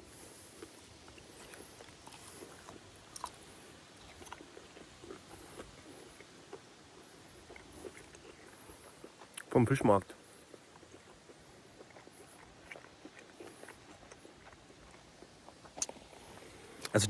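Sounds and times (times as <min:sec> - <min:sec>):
person chewing: 0:00.1 - 0:09.5, 0:10.1 - 0:17.0.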